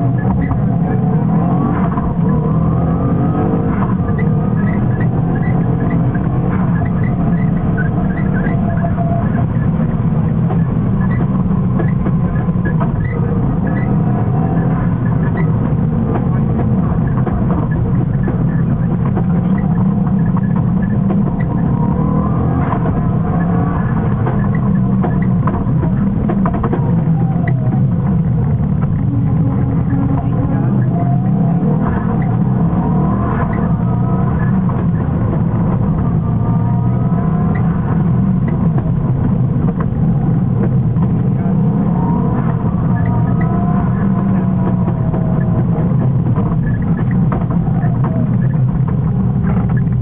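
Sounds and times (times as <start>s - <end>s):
car engine driven hard: 0.0s - 50.0s
road and cabin noise: 0.0s - 50.0s.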